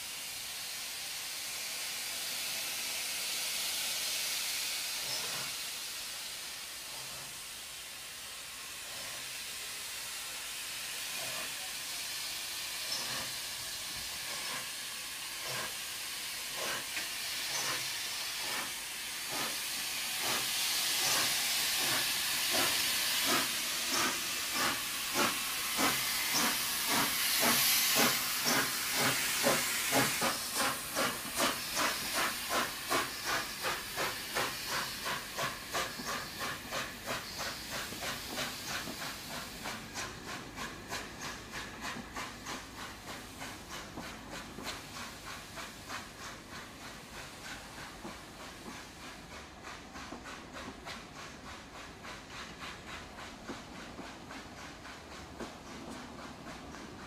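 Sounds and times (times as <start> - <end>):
steam hissing: 0.0 - 57.0
steam locomotive exhaust beats: 0.0 - 57.0.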